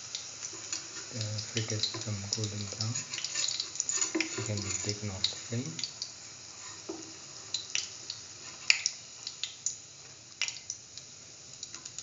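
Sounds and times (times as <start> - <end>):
fritters sizzling in hot oil: 0.0 - 12.0.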